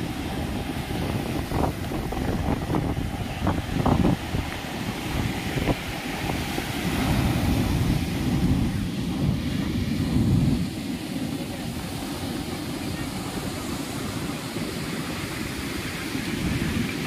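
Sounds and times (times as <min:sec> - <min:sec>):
surf breaking on a beach: 0:00.0 - 0:17.0
wind buffeting microphone: 0:00.0 - 0:17.0.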